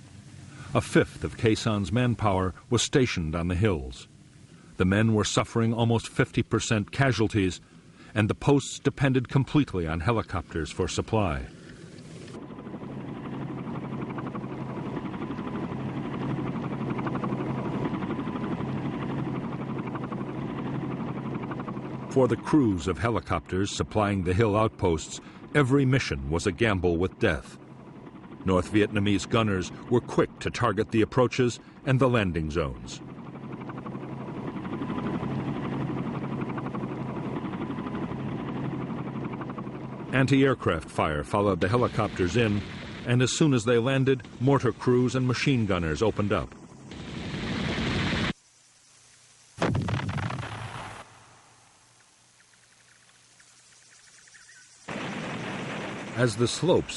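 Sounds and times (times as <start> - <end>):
helicopter engine drone: 0.0 - 48.4, 49.9 - 56.9
helicopter rotor chop: 0.0 - 48.4, 53.0 - 56.9.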